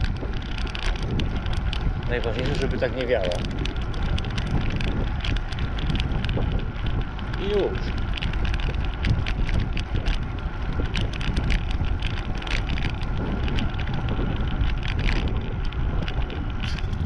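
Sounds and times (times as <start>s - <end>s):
bike clicks and rattles: 0.0s - 17.0s
tyres on asphalt: 0.0s - 17.0s
wind buffeting microphone: 0.0s - 17.0s.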